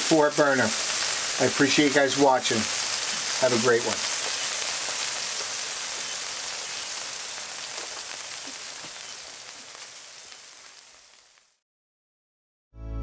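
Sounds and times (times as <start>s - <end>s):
food sizzling on griddle: 0.0s - 11.6s.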